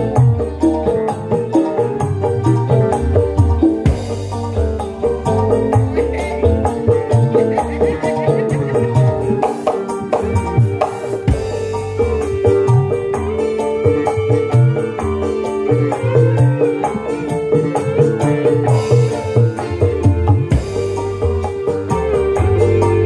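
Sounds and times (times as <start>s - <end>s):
band music: 0.0s - 23.0s
hand drums: 0.0s - 23.0s.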